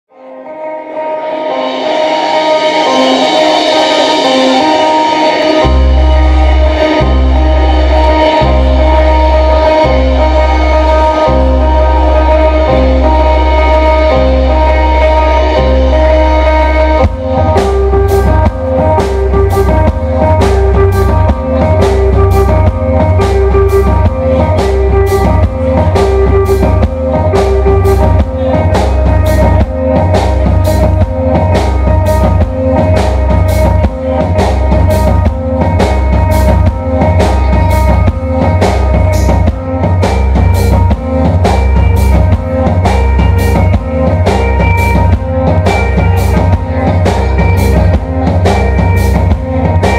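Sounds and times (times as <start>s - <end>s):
electric guitars: 0.1s - 49.9s
drum kit beat: 1.4s - 49.9s.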